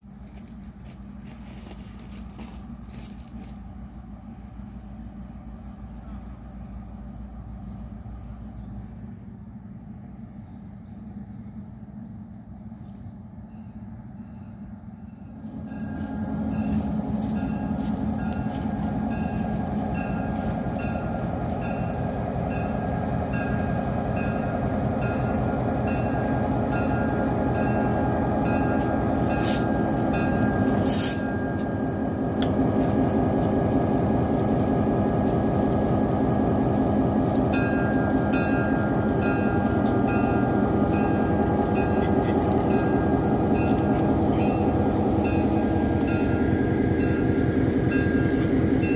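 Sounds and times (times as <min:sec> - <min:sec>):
locomotive engine running: 0:00.0 - 0:48.9.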